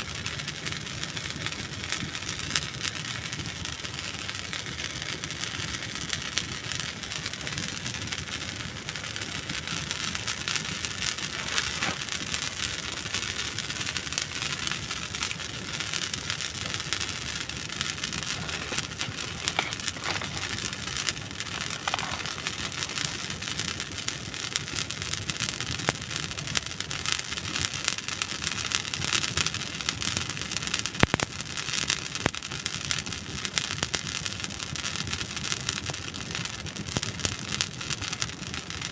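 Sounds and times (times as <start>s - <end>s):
campfire crackling: 0.0s - 38.9s
fire pops and snaps: 0.2s - 38.9s.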